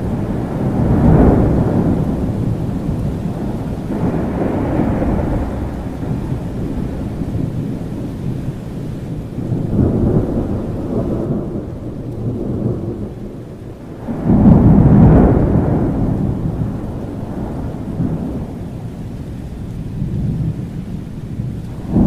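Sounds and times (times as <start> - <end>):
loud peal of thunder: 0.0 - 19.2, 21.4 - 22.0
low thunder rumbling: 0.0 - 22.0
rain: 0.0 - 22.0.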